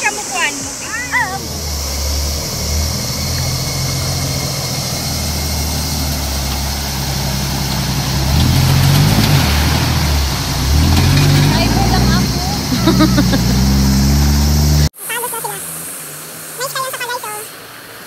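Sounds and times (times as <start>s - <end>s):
off-road vehicle engine running: 0.0s - 17.3s
wheels throwing up spray: 0.0s - 17.6s
water rushing: 0.0s - 18.0s.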